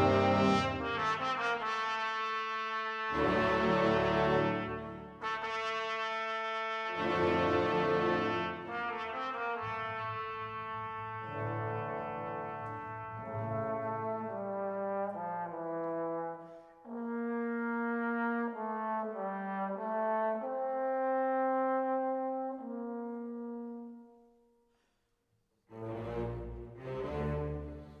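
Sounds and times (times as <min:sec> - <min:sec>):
brass playing slow melody: 0:00.0 - 0:24.3
fuller piece of music: 0:00.0 - 0:28.0.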